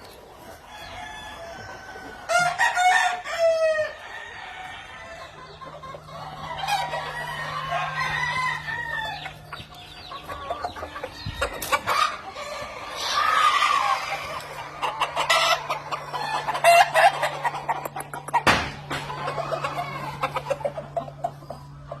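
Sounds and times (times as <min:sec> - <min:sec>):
chickens clucking: 0:00.0 - 0:22.0
roosters crowing: 0:00.0 - 0:22.0
steady low hum: 0:03.9 - 0:22.0.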